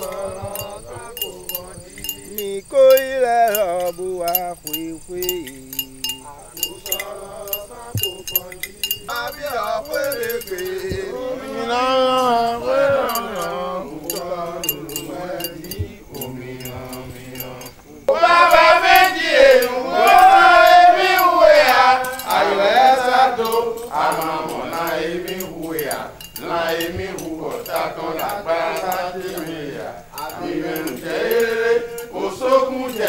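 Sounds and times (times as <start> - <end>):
metallic clinks: 0.0 - 33.0
voices singing a chant: 0.0 - 33.0.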